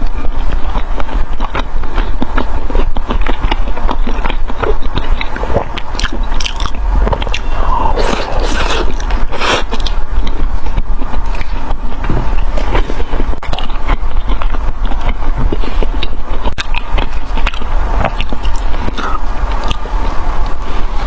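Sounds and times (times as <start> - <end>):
chewing crunchy food: 0.0 - 21.0.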